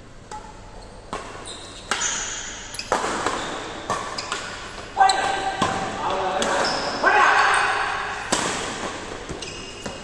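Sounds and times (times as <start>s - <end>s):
rackets hitting shuttlecock: 0.2s - 6.9s, 8.0s - 10.0s.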